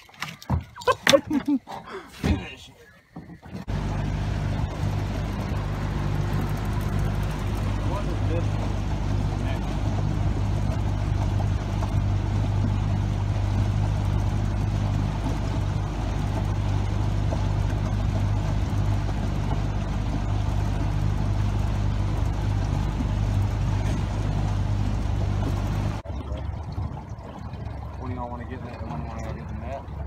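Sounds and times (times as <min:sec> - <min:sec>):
boat motor humming: 0:00.0 - 0:30.0
wind and water noise: 0:00.0 - 0:30.0.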